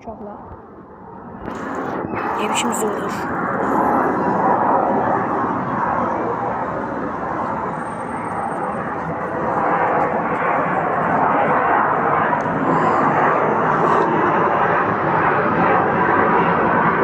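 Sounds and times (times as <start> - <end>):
fighter jet engine rushing: 0.0 - 17.0.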